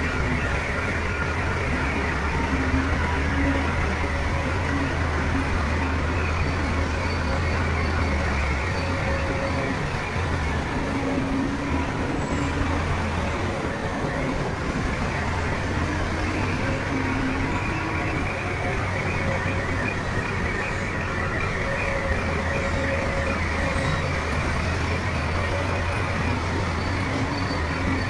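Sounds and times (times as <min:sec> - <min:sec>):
bulldozer diesel engine drone: 0:00.0 - 0:28.0.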